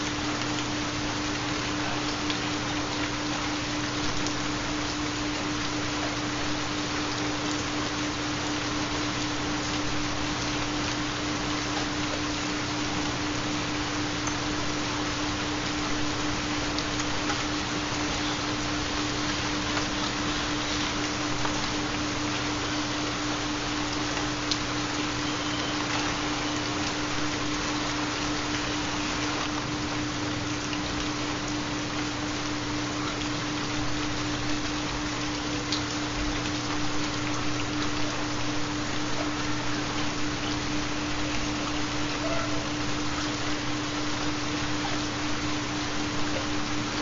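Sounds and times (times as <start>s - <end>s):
rain drop ticks: 0.0s - 45.2s
steady rain falling: 0.0s - 47.0s.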